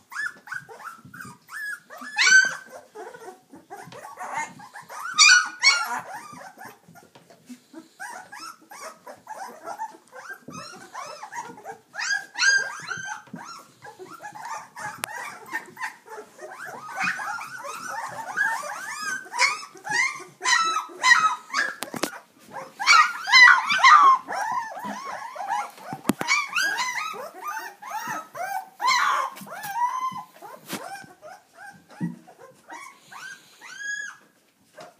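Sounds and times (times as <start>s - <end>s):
puppies whimpering and yelping: 0.0s - 34.9s.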